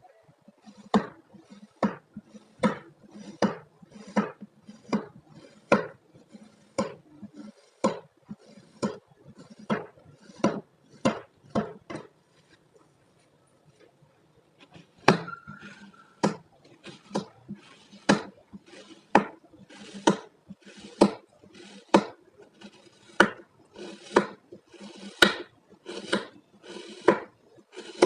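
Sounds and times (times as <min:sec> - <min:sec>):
knife cutting through sand: 0:00.6 - 0:12.6, 0:14.6 - 0:28.0.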